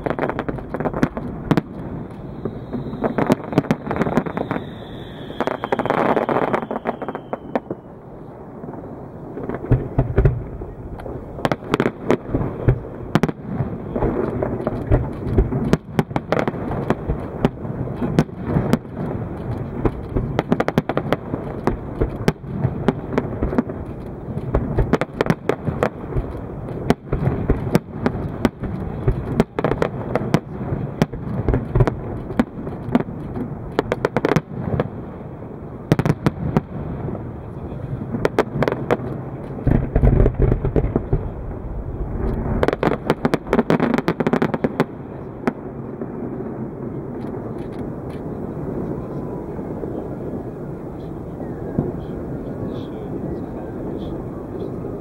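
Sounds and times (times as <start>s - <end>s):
continuous rumble: 0.0s - 55.0s
fireworks bangs and crackles: 0.0s - 55.0s.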